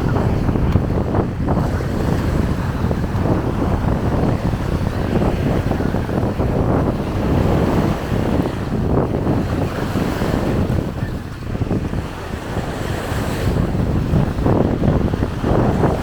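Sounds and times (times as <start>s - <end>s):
small waves breaking on beach: 0.0s - 16.0s
wind buffeting microphone: 0.0s - 16.0s.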